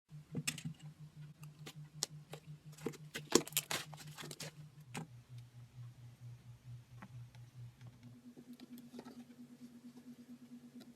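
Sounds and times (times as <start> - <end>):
low pulsing hum: 0.1 - 10.9.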